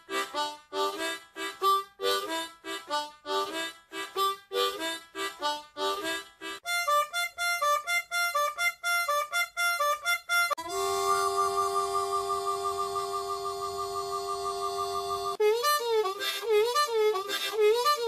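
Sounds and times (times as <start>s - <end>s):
harmonica playing: 0.0s - 18.0s.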